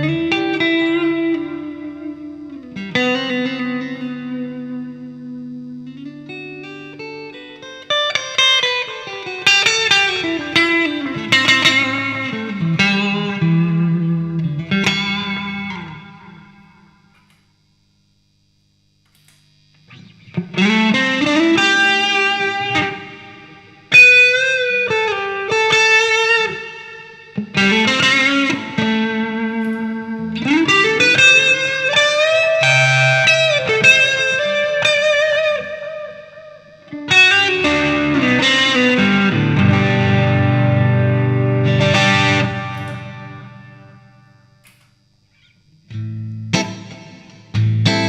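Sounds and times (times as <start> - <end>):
distorted electric guitar: 0.0 - 48.0.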